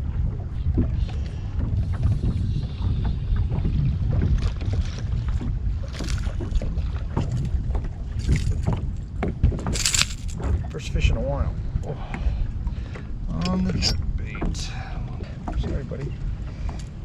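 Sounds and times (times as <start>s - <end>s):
boat engine rumble: 0.0s - 17.0s
wind buffeting microphone: 0.0s - 17.0s.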